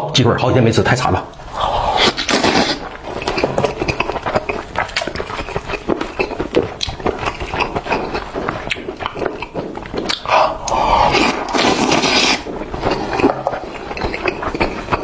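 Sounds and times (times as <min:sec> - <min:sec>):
wet chewing and lip-smacking: 0:01.3 - 0:15.0.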